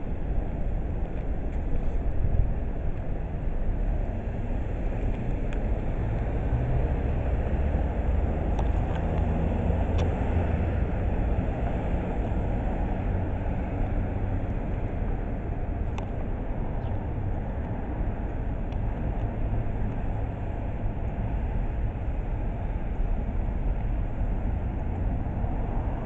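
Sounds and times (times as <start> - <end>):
low street ambience rumble: 0.0 - 26.0.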